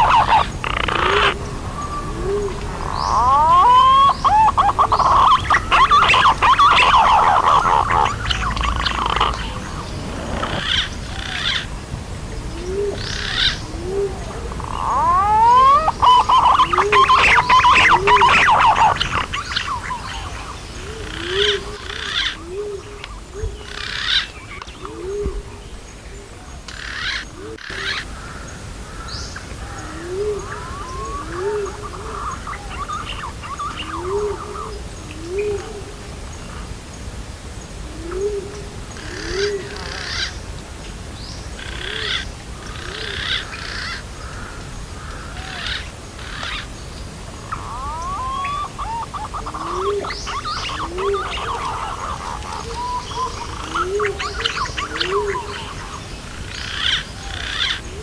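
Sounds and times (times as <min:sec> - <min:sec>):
birds high chirps: 0:00.0 - 0:11.8, 0:12.4 - 0:35.7, 0:41.2 - 0:58.0.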